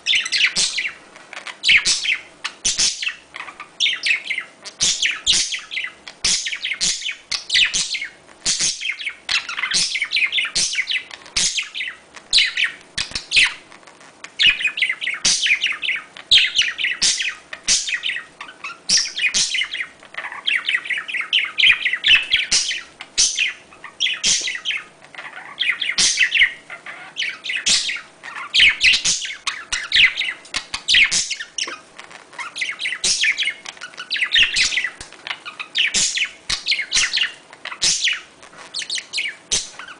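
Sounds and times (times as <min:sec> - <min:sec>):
budgerigars chattering and warbling: 0:00.0 - 0:13.7, 0:14.4 - 0:39.9.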